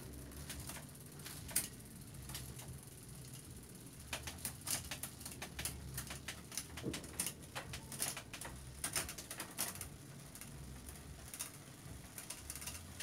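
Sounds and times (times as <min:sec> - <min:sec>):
bicycle chain clicking on cogs: 0:00.0 - 0:13.0.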